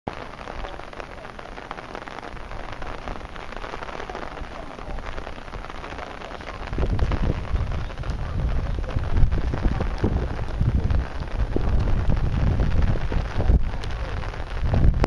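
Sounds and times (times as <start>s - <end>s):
heavy rain pattering: 0.1s - 15.0s.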